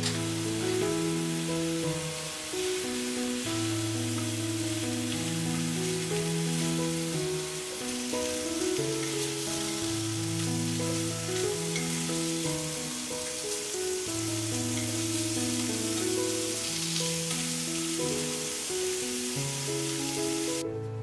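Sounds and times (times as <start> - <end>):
food sizzling in a pan: 0.0 - 20.6
background music: 0.0 - 21.0.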